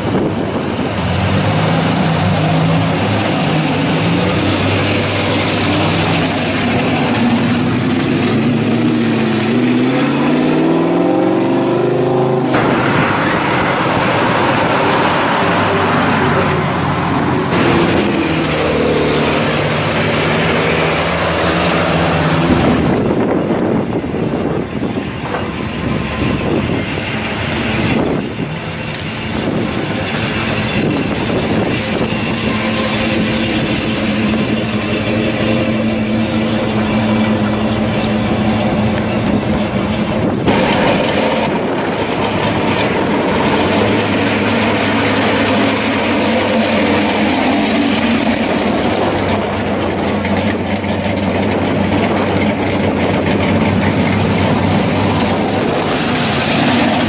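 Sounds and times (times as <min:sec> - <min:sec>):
car engines driving past: 0:00.0 - 0:57.0.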